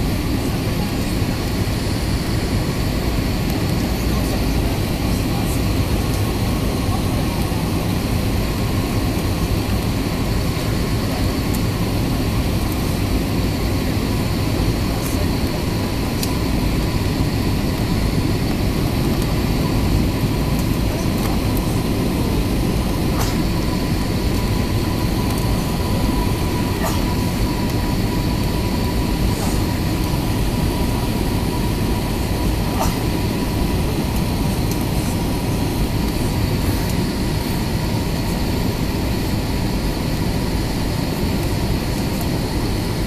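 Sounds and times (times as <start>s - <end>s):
airliner cabin roar: 0.0s - 43.0s.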